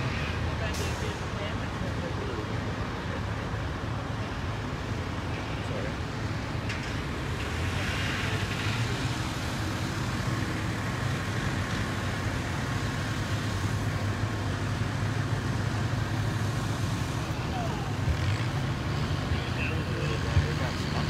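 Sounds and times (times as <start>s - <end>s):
large engine droning: 0.0s - 21.0s.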